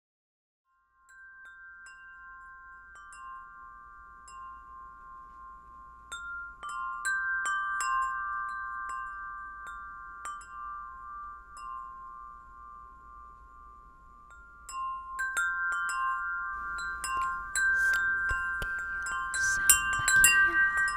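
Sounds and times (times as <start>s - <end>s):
wind chimes ringing: 0.7s - 20.9s.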